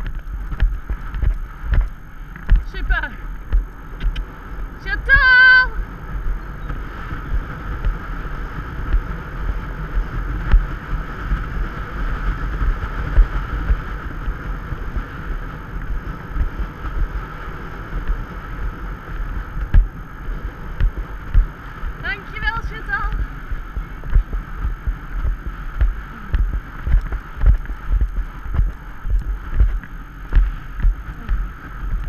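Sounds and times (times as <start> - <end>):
hooves thudding on sand: 0.0 - 32.0
wind rushing over microphone: 0.0 - 32.0.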